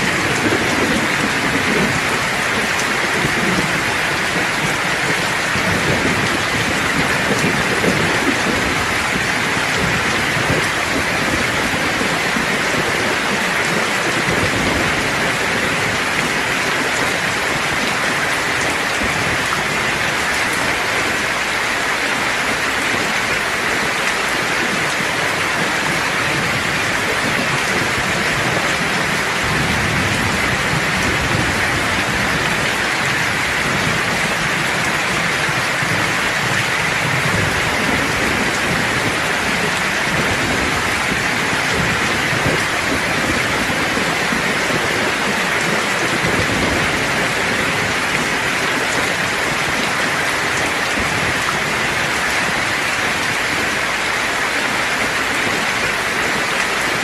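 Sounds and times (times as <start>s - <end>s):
distant thunder rumble: 0.0s - 53.9s
rain falling: 0.0s - 57.0s.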